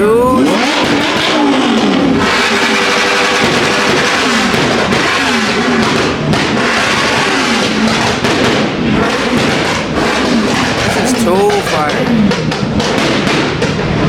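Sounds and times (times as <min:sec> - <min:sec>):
constant rumble of engines: 0:00.0 - 0:14.0
car engine revving: 0:00.4 - 0:14.0.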